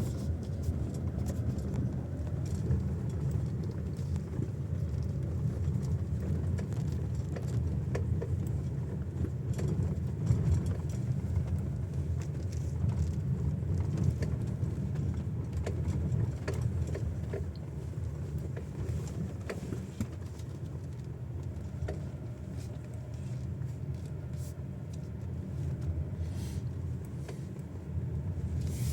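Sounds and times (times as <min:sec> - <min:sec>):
low road rumble: 0:00.0 - 0:28.9.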